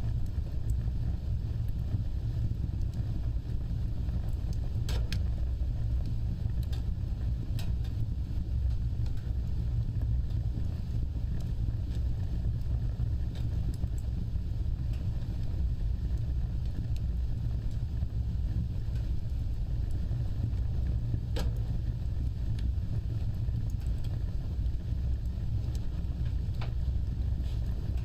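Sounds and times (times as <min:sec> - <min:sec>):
fire crackling and popping: 0:00.0 - 0:28.0
wood fire roaring: 0:00.0 - 0:28.0.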